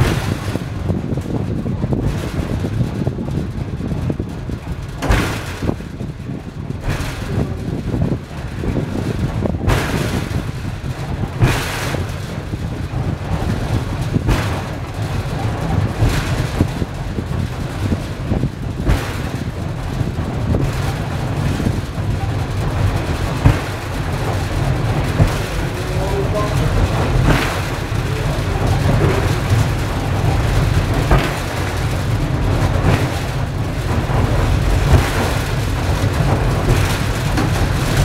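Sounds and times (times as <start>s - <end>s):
funicular car rumbling on rails: 0.0s - 38.0s.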